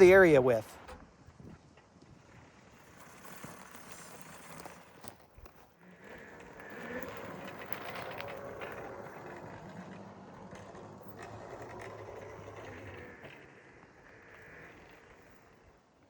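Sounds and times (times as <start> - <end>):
vehicle driving with low hum: 0.8 - 16.0.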